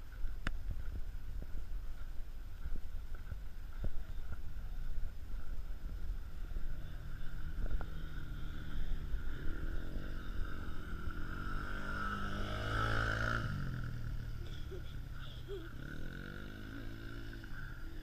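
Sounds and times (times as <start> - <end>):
quad engine running: 0.0 - 18.0.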